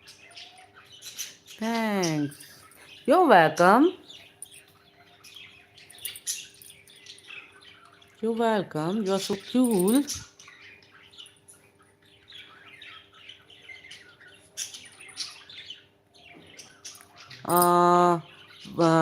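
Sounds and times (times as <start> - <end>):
budgies and cockatiels chirping: 0.0 - 19.0.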